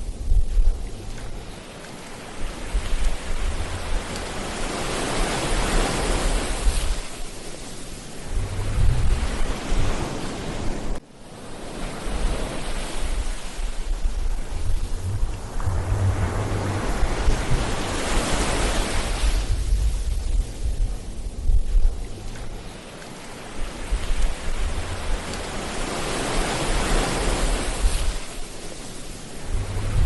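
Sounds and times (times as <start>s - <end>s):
ocean waves breaking: 0.0s - 30.0s
wind rumbling on microphone: 0.0s - 30.0s.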